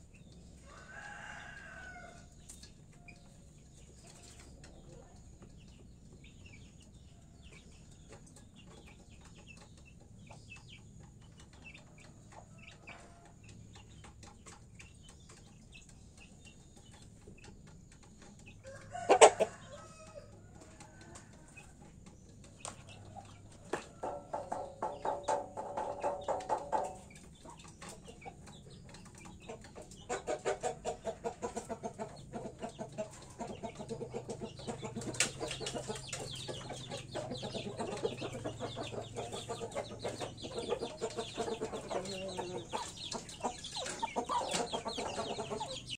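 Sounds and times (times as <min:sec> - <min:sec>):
chicken clucking: 0:00.0 - 0:45.9
chickens pecking and scratching: 0:00.0 - 0:45.9.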